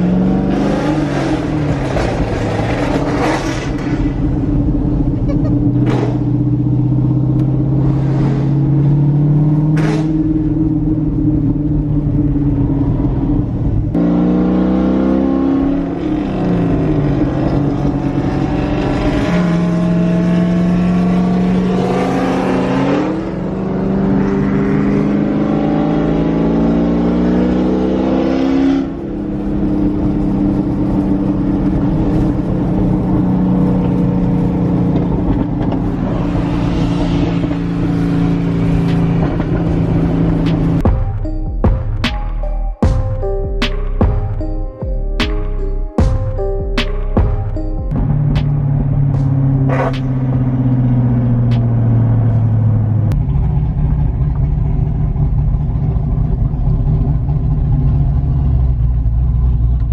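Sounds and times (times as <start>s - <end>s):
muscle car engines revving: 0.0s - 40.9s, 47.9s - 59.9s.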